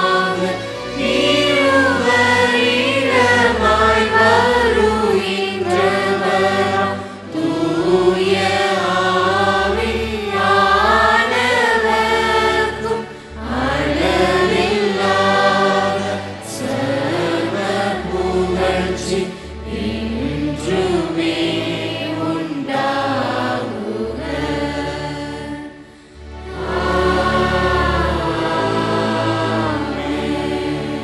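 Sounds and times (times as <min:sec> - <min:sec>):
church choir singing a hymn: 0:00.0 - 0:31.0
instrumental accompaniment: 0:00.0 - 0:31.0.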